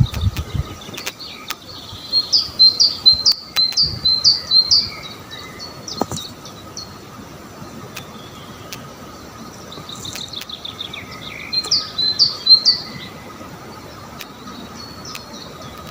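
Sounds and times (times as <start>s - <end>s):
songbird chirping: 0.0s - 15.9s.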